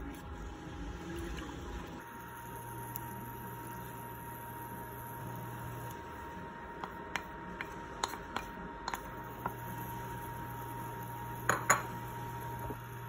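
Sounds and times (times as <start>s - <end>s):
low electric hum: 0.0s - 13.0s.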